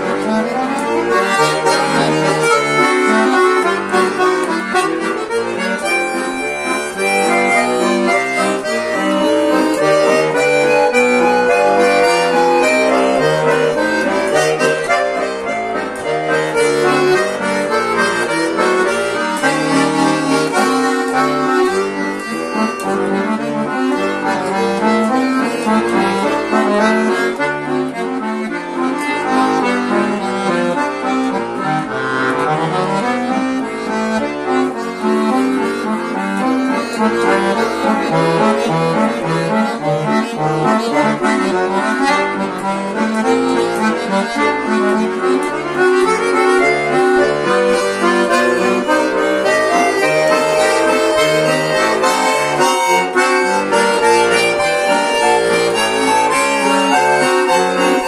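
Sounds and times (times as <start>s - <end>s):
button accordion playing: 0.0s - 58.0s.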